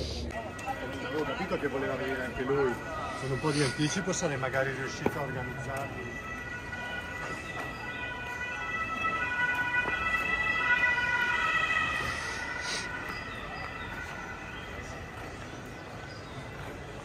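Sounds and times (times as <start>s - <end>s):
siren in stepping tones: 0.5s - 15.5s.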